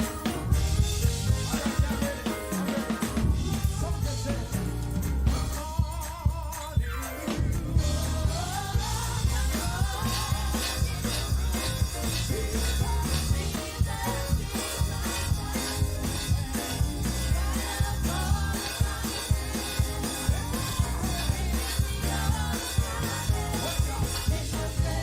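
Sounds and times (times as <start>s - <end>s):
band playing upbeat groove: 0.0s - 25.0s
person singing: 1.3s - 25.0s.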